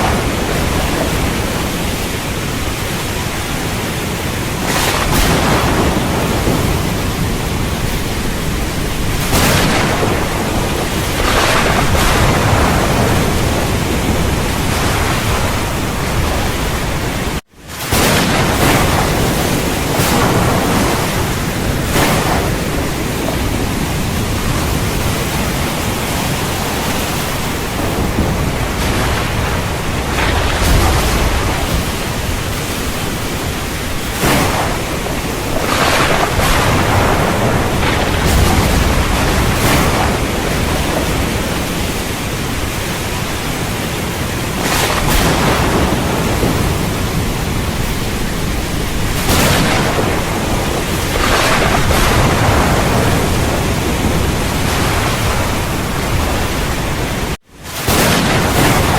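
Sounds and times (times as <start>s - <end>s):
heavy rain hissing: 0.0s - 58.9s
thunder cracks and rumbles: 0.0s - 58.9s.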